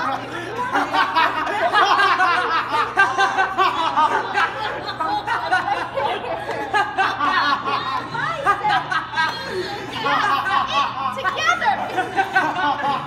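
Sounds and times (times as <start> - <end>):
teenagers laughing: 0.0 - 13.0.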